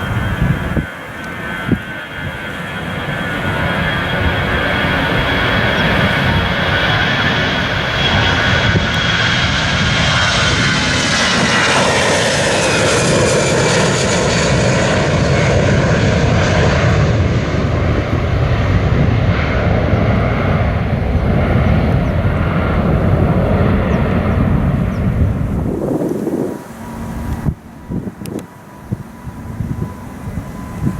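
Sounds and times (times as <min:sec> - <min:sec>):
jet airliner taking off: 0:00.0 - 0:30.9.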